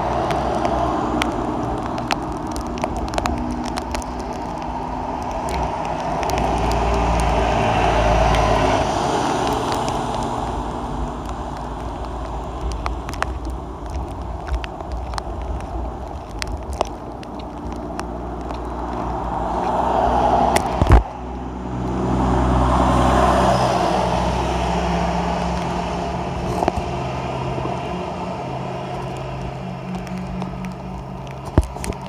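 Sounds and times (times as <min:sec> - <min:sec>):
cars passing on wet road: 0:00.0 - 0:32.0.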